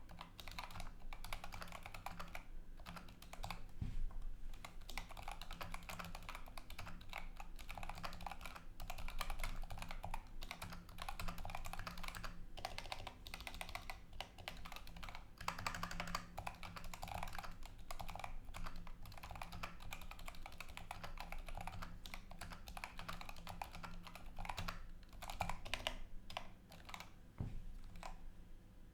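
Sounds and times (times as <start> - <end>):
fast typing on mechanical keyboard: 0.0 - 3.7, 4.6 - 27.1, 27.8 - 28.2.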